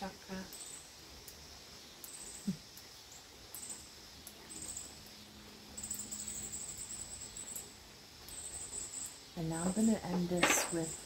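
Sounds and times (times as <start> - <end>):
faint steady hiss: 0.0 - 11.0
insects chirping in trills: 0.0 - 11.0.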